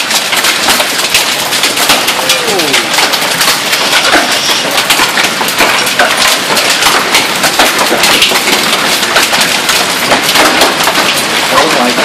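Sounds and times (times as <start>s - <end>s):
hail clattering on concrete: 0.0s - 12.0s
rain: 0.0s - 12.0s.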